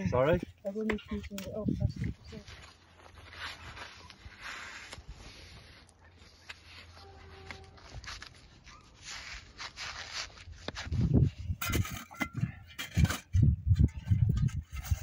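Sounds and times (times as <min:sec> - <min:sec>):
rustling and rubbing on metal frame: 0:01.9 - 0:12.2, 0:12.8 - 0:15.0.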